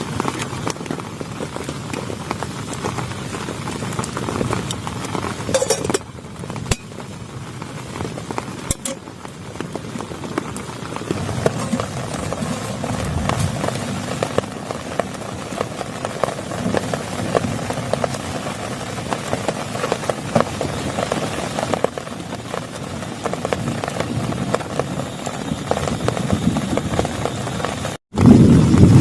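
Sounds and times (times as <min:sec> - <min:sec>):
heavy rain falling: 0:00.0 - 0:29.0
raindrops tapping close by: 0:00.0 - 0:29.0.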